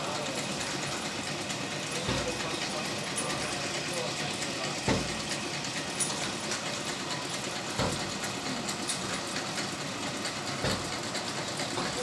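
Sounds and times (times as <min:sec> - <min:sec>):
motor running steadily: 0:00.0 - 0:12.0.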